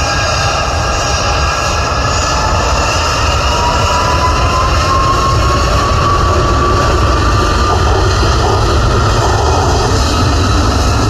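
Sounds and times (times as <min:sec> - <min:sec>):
jet engines spooling up: 0:00.0 - 0:11.0.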